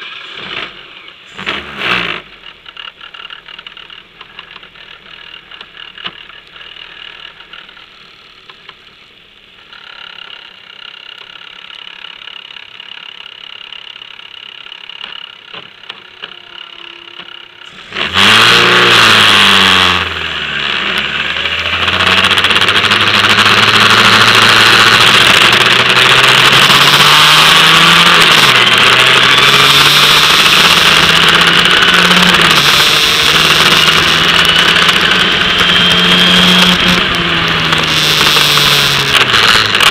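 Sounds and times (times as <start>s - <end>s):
racing car engine revving: 0.0s - 8.7s, 14.9s - 39.9s.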